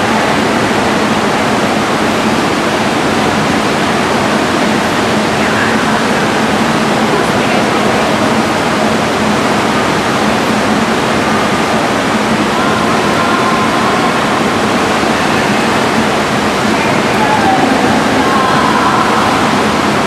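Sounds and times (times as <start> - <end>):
faint voices: 0.0 - 20.0
steady rushing noise: 0.0 - 20.0.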